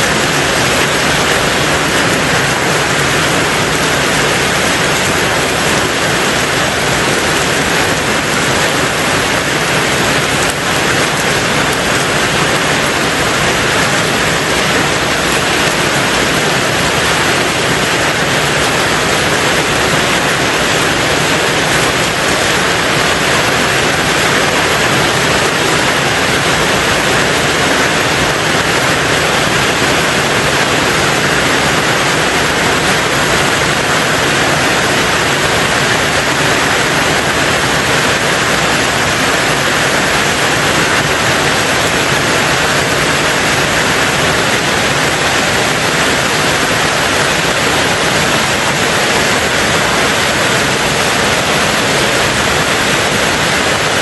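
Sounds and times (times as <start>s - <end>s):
heavy rain on a tin roof: 0.0s - 54.0s.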